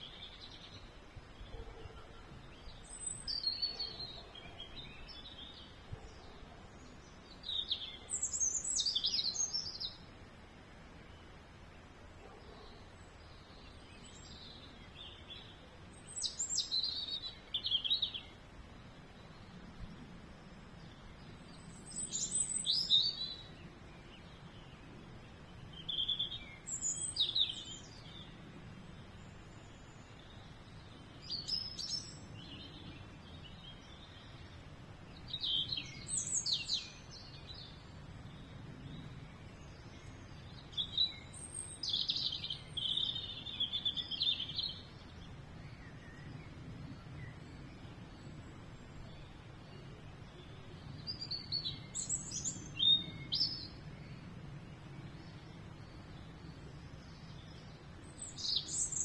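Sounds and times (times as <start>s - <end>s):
faint steady background noise: 0.0s - 59.0s
songbird singing: 0.0s - 59.0s.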